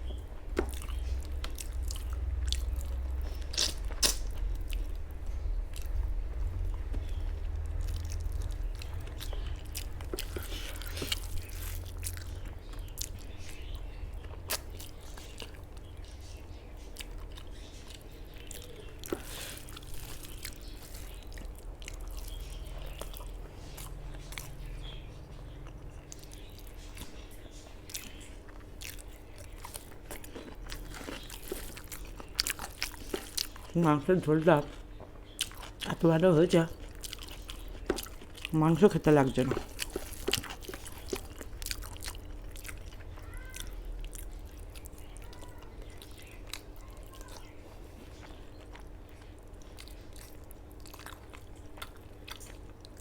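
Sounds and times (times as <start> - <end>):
low steady hum: 0.0 - 53.0
person chewing food: 0.0 - 53.0.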